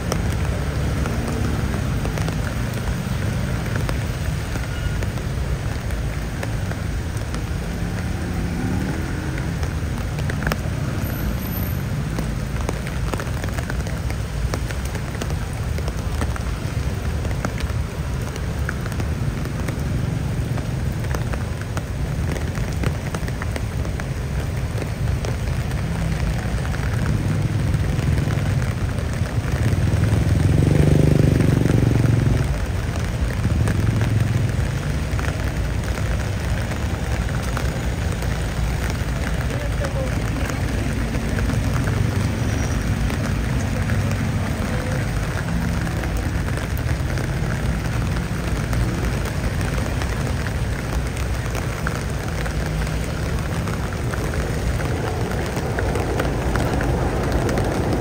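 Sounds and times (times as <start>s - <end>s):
low traffic rumble: 0.0s - 58.0s
rain falling: 0.0s - 58.0s.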